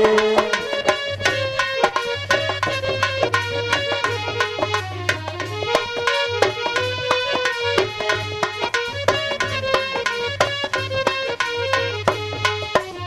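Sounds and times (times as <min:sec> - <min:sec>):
hand drums playing quick rhythm: 0:00.0 - 0:13.0
sustained melody line: 0:00.0 - 0:13.0.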